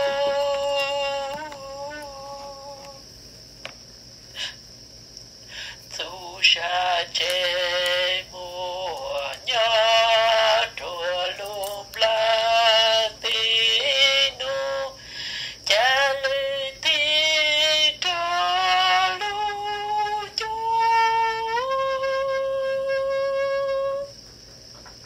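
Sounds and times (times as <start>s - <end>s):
person singing slow melody: 0.0s - 3.2s, 4.3s - 24.2s.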